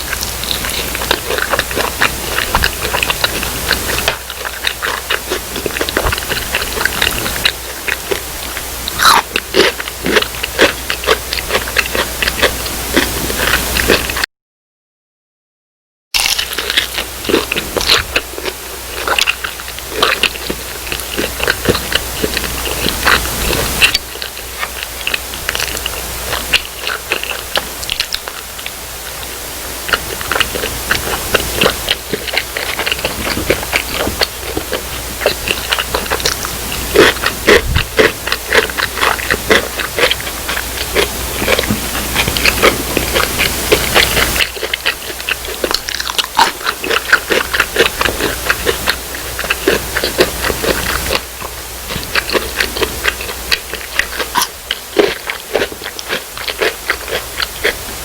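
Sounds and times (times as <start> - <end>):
person chewing crispy food: 0.0 - 14.2, 16.2 - 58.0.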